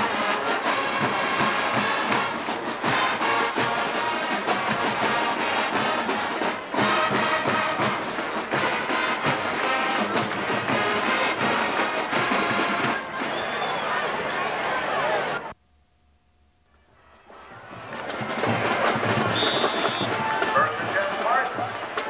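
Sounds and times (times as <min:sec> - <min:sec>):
marching band playing: 0:00.0 - 0:15.4, 0:17.3 - 0:22.0.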